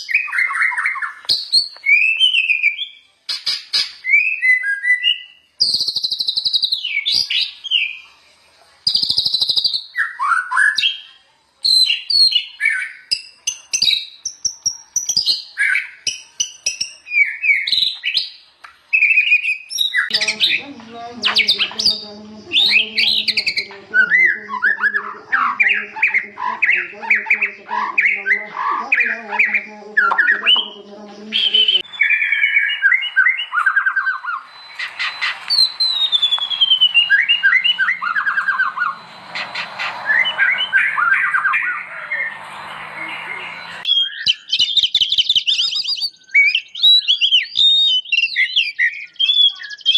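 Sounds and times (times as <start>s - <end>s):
songbird singing varied song: 0.0s - 8.1s, 8.9s - 11.1s, 11.7s - 49.9s.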